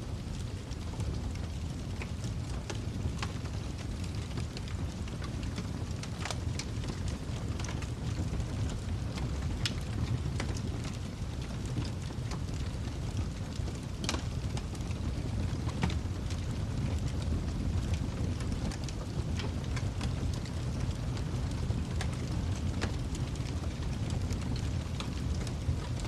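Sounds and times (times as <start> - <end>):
wood fire crackling and popping: 0.1 - 26.0.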